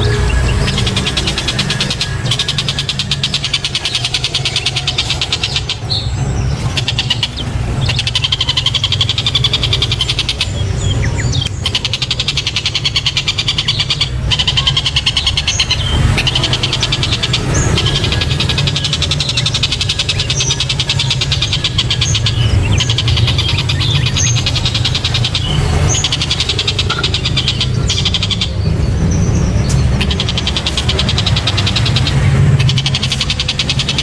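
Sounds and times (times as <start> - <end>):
bird rattling chatter: 0.0 - 10.7, 11.3 - 34.0
steady low rumble: 0.0 - 34.0.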